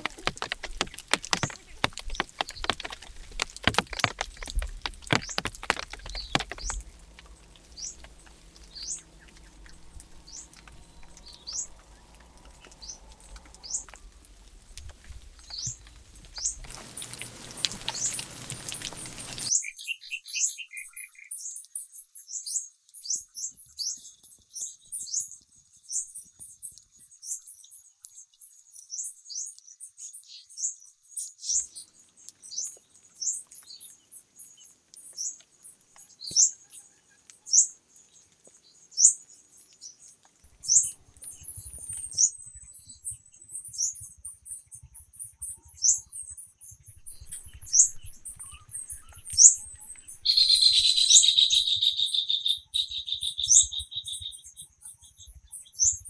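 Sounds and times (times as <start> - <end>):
songbird chirping: 0.0 - 21.4, 31.5 - 56.0.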